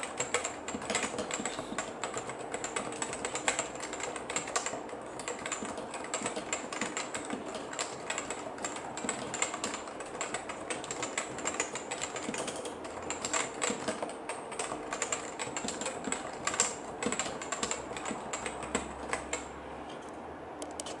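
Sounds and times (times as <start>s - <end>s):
keyboard typing: 0.0s - 21.0s.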